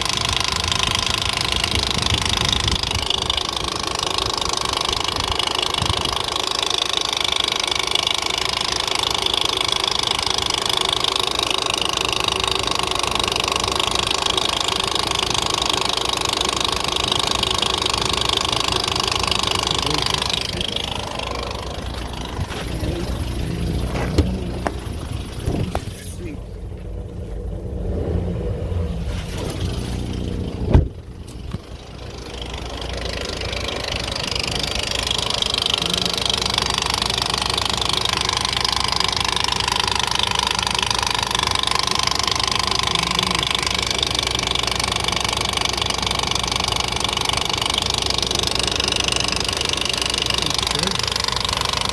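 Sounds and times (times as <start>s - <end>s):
car engine running: 0.0s - 51.9s
fast engine ticking: 0.0s - 51.9s.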